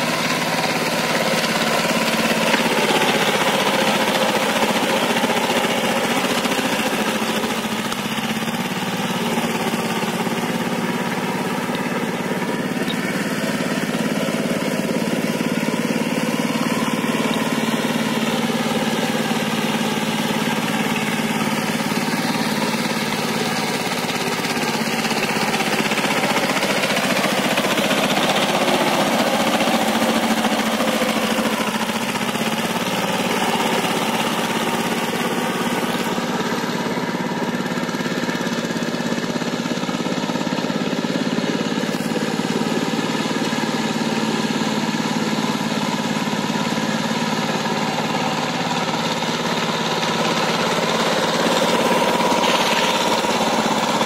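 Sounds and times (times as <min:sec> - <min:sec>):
tiller diesel engine running: 0:00.0 - 0:54.0.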